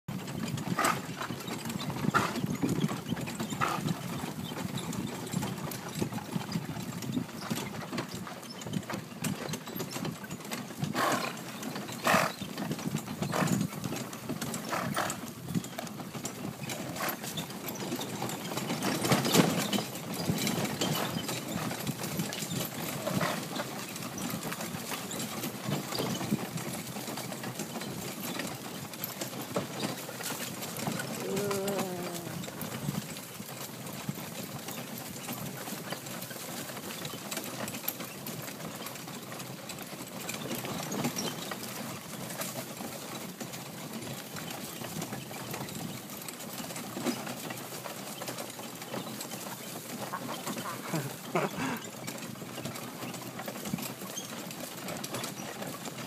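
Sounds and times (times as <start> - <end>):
carriage rumbling and rattling: 0.1 - 56.0
hooves clip-clopping on dirt: 0.1 - 56.0.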